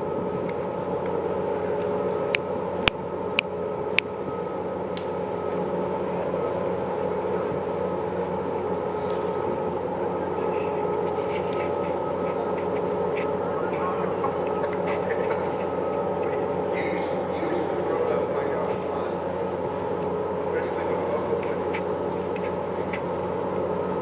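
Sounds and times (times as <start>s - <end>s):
ferry engines droning: 0.0s - 24.0s.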